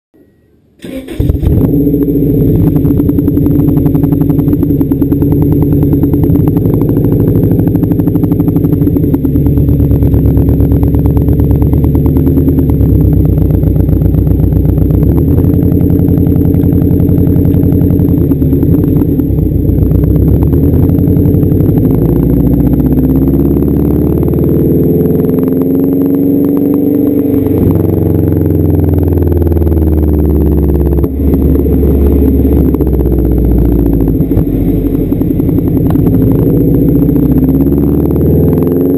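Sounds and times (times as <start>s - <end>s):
car engine revving: 0.8s - 38.9s.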